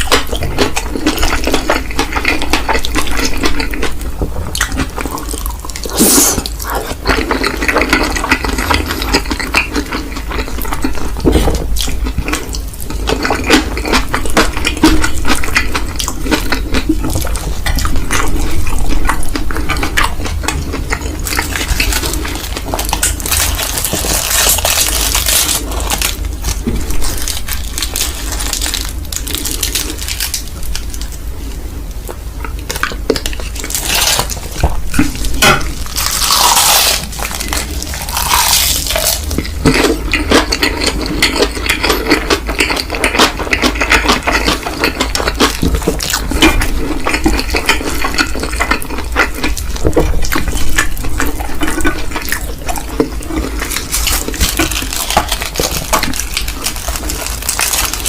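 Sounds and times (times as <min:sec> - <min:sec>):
eating noodles close up: 0:00.0 - 0:58.0.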